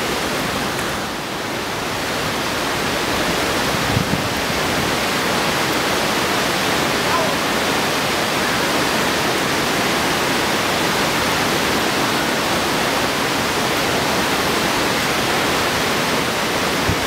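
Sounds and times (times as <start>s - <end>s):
creek water rushing over rapids: 0.0s - 17.0s.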